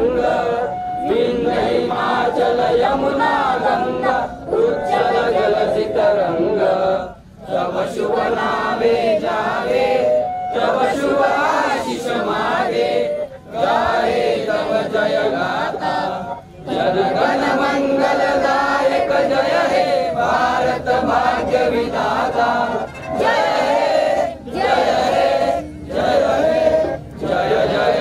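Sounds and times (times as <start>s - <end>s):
crowd chanting in unison: 0.0s - 28.0s.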